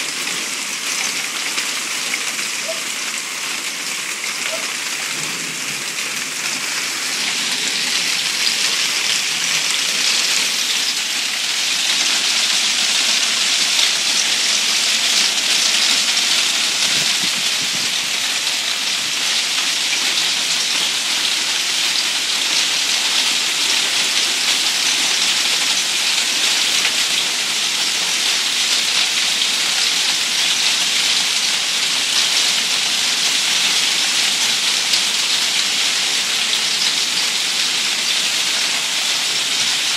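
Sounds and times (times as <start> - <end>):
hail and heavy rain falling: 0.0 - 39.9.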